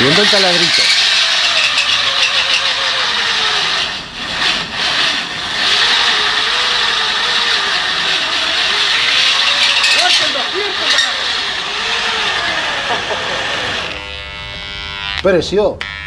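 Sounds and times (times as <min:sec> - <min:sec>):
angle grinder motor whine: 0:00.0 - 0:16.0.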